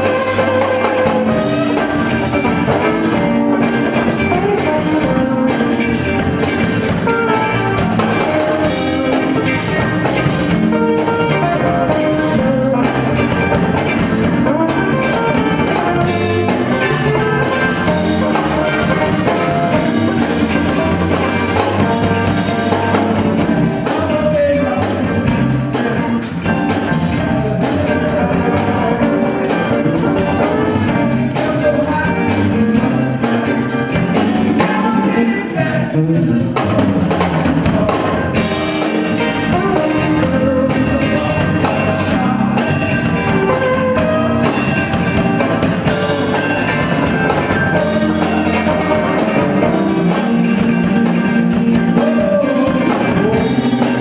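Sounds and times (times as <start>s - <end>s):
drum kit: 0.0s - 54.0s
electric bass: 0.0s - 54.0s
electric guitars: 0.0s - 54.0s.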